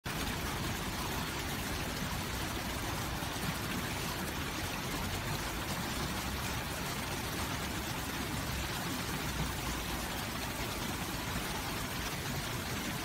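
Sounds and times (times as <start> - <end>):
water rushing over stone: 0.0 - 13.0.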